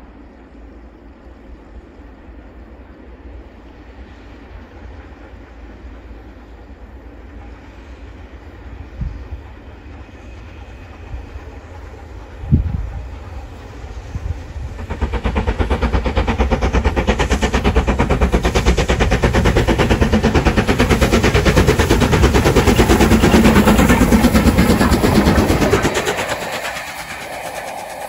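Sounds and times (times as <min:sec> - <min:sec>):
steam locomotive exhaust chuffs: 0:00.0 - 0:28.0.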